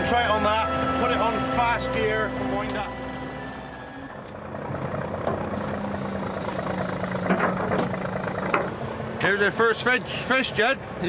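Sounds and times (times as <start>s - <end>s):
net hauler mechanical hum: 0.0s - 11.0s.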